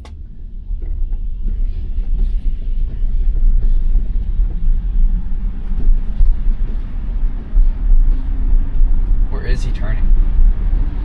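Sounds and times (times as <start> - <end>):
tyres rumbling on snowy road: 0.0 - 11.0.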